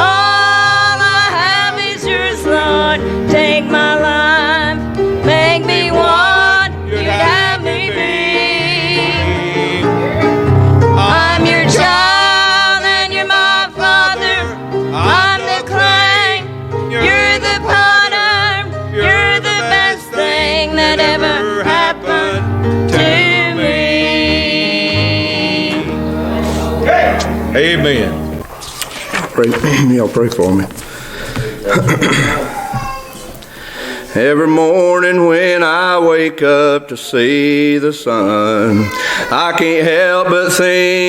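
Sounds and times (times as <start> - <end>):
person singing gospel song: 0.0 - 29.9, 30.7 - 41.0
acoustic bluegrass accompaniment: 0.0 - 34.9.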